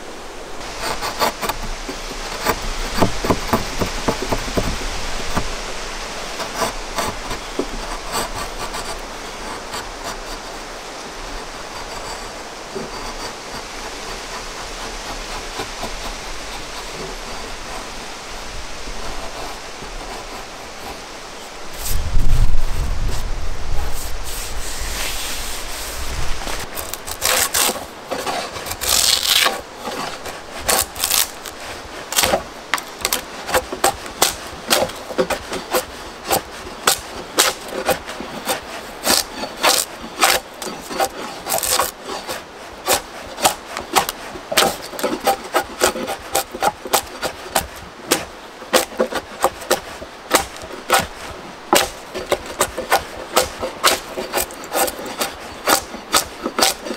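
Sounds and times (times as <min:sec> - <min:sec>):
drawknife scraping wood: 0:00.6 - 0:22.1, 0:23.1 - 0:56.9.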